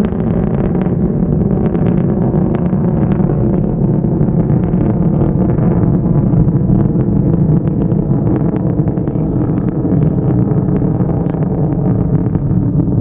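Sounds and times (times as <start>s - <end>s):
rocket rumble with crackling: 0.0s - 13.0s.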